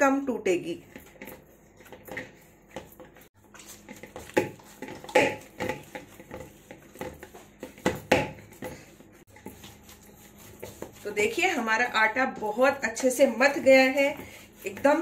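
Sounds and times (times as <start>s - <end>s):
hands kneading dough: 0.8s - 15.0s.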